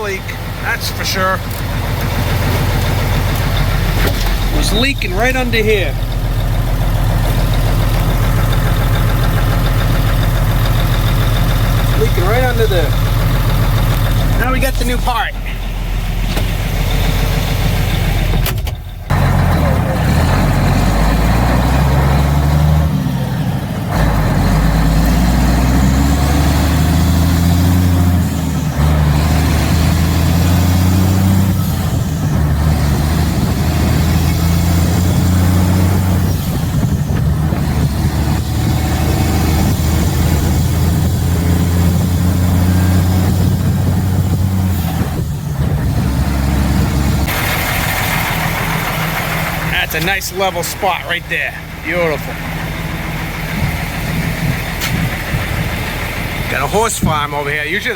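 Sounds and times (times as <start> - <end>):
diesel truck engine under load: 0.0 - 57.9.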